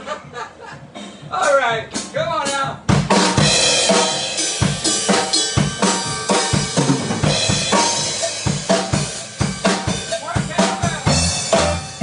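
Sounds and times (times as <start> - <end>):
drum kit rock beat: 0.0 - 12.0
recorded rock song: 0.9 - 12.0.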